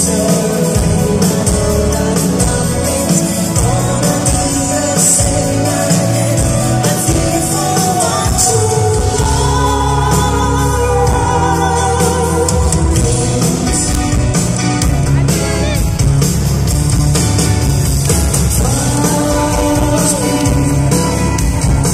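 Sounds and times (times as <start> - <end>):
person singing lead vocal: 0.0 - 15.9, 18.3 - 21.9
live band playing slow pop song: 0.0 - 21.9.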